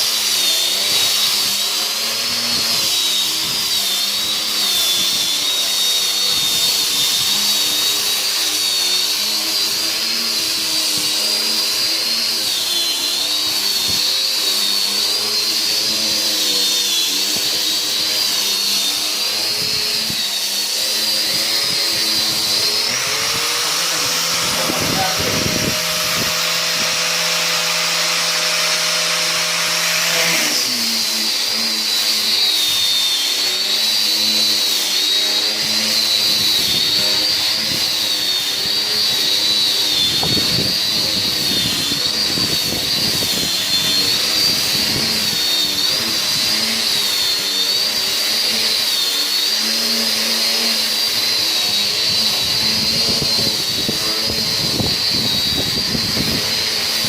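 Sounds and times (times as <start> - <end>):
electric power tool whining: 0.0 - 57.0.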